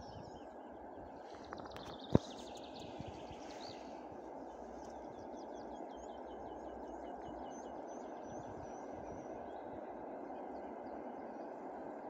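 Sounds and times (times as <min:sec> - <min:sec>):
songbird singing: 0:00.0 - 0:11.6.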